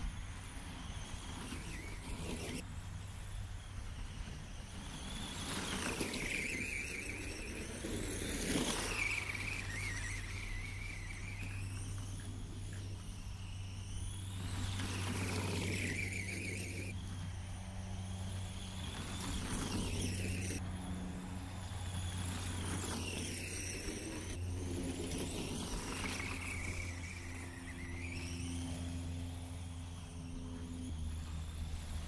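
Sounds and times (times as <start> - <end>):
low hum: 0.0 - 32.0
rc truck motor whining: 0.0 - 32.0.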